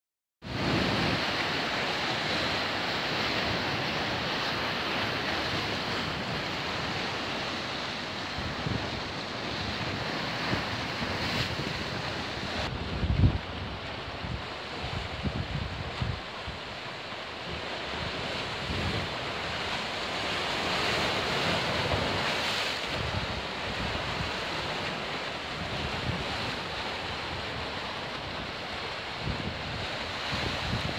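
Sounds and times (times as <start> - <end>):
waves breaking on rocks: 0.5 - 30.9
wind buffeting microphone: 4.3 - 16.8, 17.4 - 30.9.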